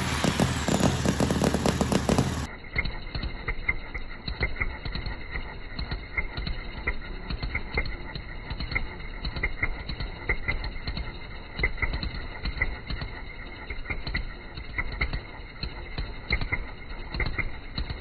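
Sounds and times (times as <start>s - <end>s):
model engine running: 0.0s - 18.0s.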